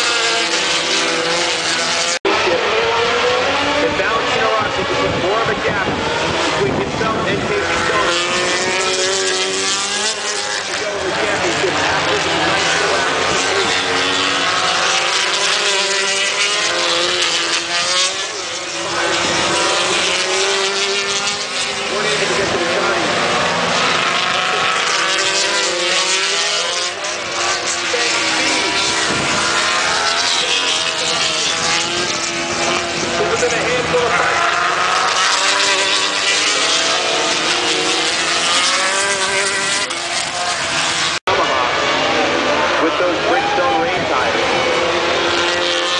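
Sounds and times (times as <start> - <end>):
racing motorcycles passing: 0.0 - 45.9.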